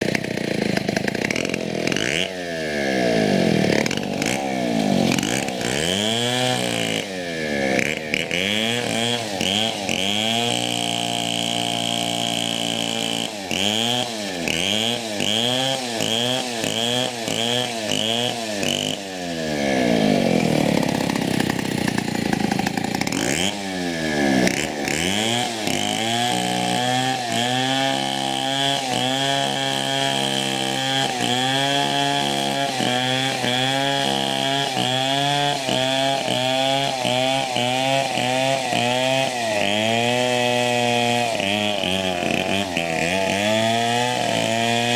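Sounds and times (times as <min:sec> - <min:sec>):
chainsaw engine revving: 0:00.0 - 0:44.9.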